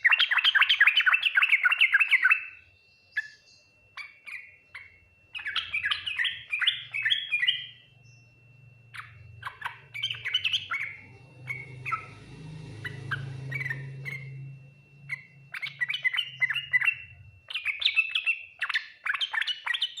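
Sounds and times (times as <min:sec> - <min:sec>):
bulbul chattering song: 0:00.0 - 0:20.0.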